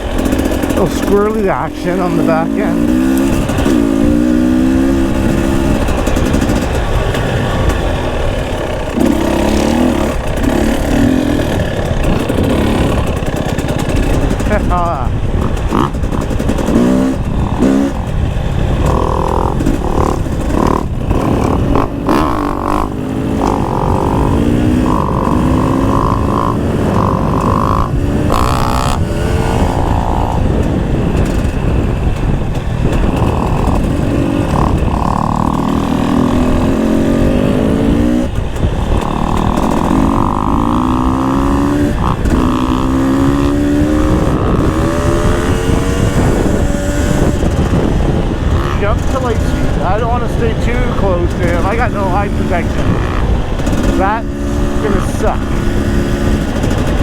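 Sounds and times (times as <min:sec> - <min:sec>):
dirt bike engine revving: 0:00.0 - 0:57.0
wind rush: 0:00.0 - 0:57.0.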